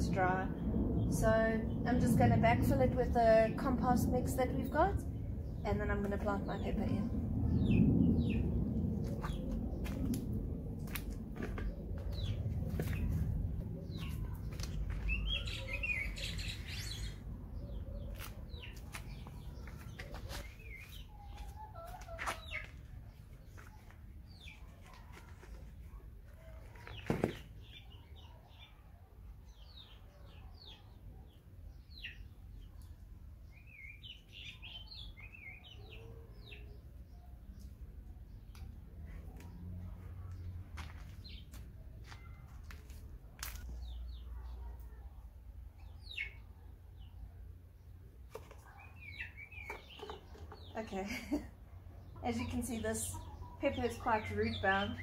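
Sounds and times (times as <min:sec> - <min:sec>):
small birds chirping: 0:03.3 - 0:55.0.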